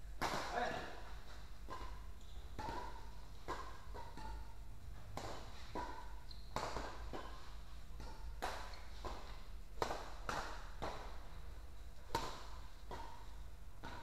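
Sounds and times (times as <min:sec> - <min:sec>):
rackets hitting shuttlecock: 0:00.0 - 0:14.0.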